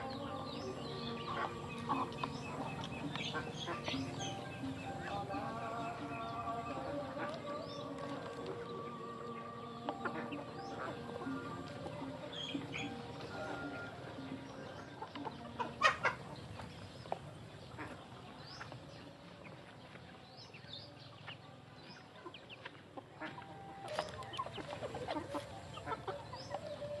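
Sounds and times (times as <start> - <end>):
chickens clucking and peeping: 0.0 - 27.0.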